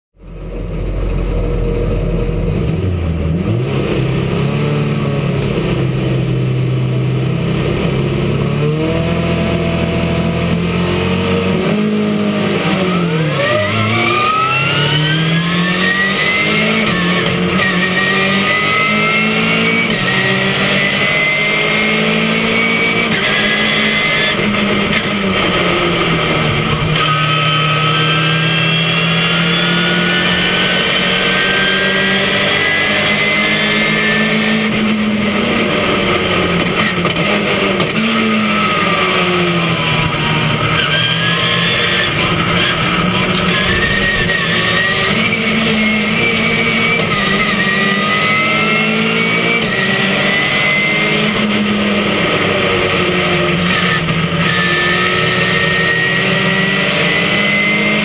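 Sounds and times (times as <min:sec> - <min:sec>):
other race cars: 0:00.2 - 0:58.0
race car engine revving: 0:00.2 - 0:58.0.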